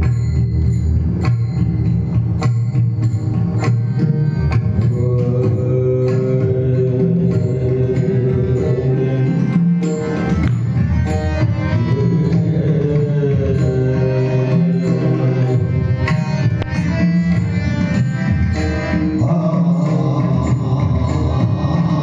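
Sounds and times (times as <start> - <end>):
sustained melody notes: 0.0 - 22.0.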